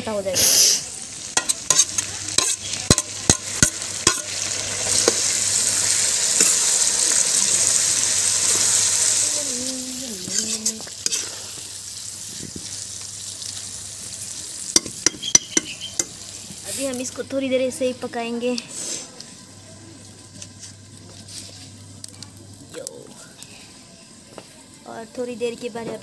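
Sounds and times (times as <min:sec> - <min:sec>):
pork frying in oil: 0:00.0 - 0:26.0.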